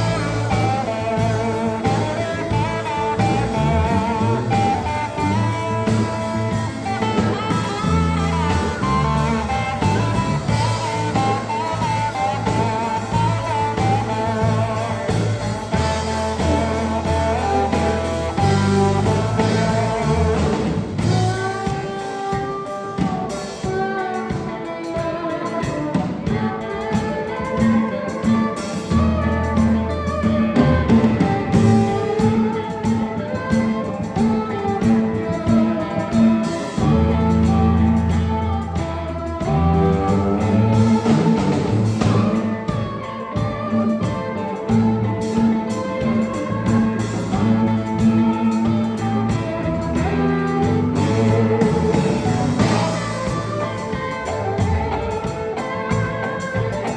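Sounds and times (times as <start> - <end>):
bass: 0.0 - 56.9
drum kit steady beat: 0.0 - 56.9
steel guitar sliding lead: 0.0 - 56.9.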